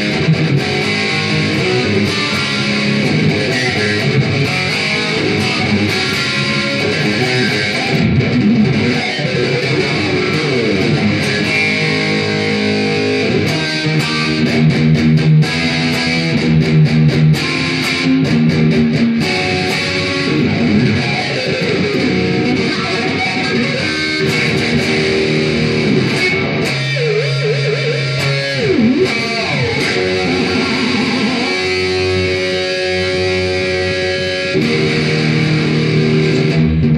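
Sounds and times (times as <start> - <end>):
electric guitar rock lead: 0.0 - 36.9.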